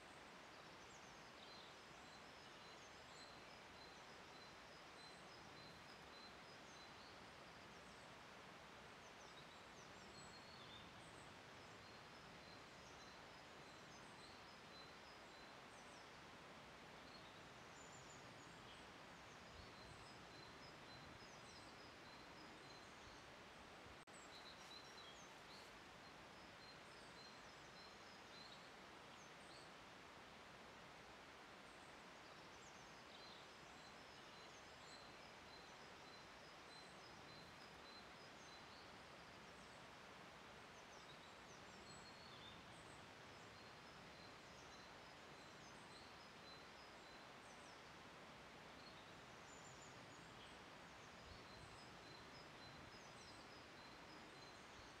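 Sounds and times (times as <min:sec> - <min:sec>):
steady low hiss: 0:00.0 - 0:55.0.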